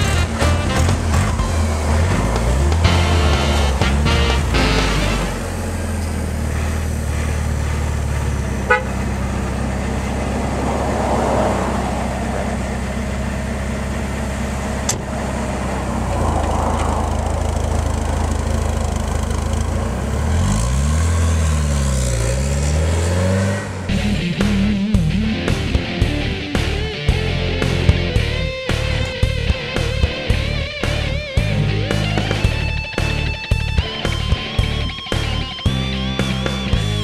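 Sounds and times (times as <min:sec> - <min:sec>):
car driving off: 0:00.0 - 0:37.0
car engine idling and revving: 0:00.0 - 0:37.0.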